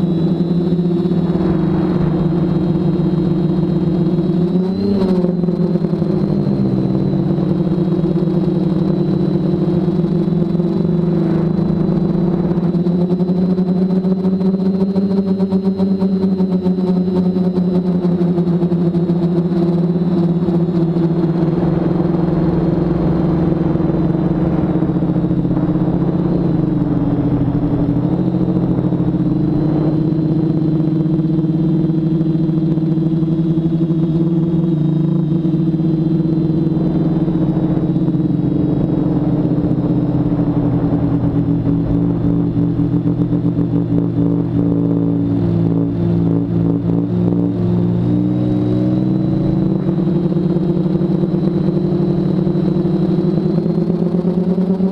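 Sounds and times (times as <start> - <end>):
quadcopter motors humming: 0.0 - 54.9.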